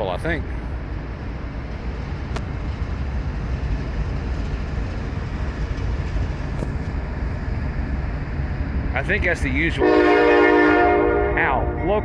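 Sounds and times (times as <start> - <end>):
distant diesel locomotives rumbling: 0.0 - 12.0.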